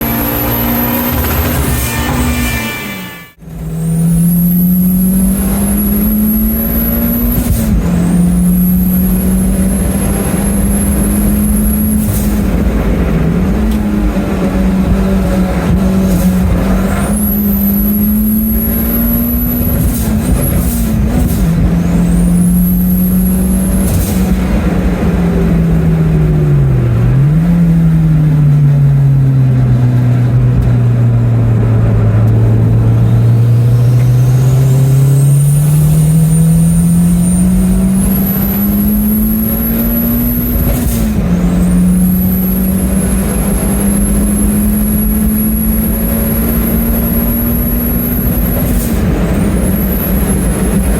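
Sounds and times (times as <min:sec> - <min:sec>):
high turbo whistle: 0:00.0 - 0:12.7, 0:13.6 - 0:20.8, 0:21.4 - 0:24.5, 0:32.6 - 0:50.9
car engine under hard throttle: 0:00.0 - 0:50.9.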